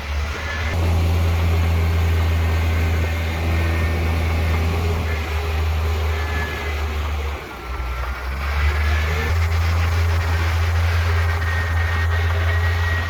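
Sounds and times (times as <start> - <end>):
diesel engine deep drone: 0.0 - 13.0.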